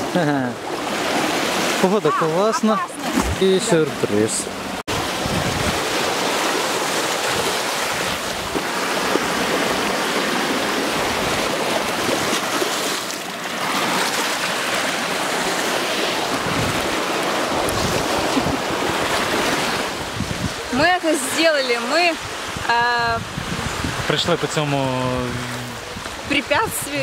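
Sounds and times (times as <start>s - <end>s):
waves washing over stones: 0.0s - 27.0s.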